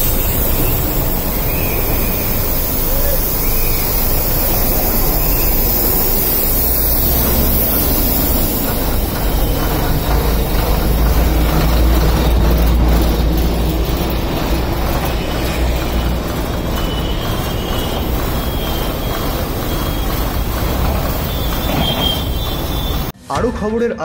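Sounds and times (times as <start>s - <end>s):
vehicle rumble: 0.0s - 23.2s.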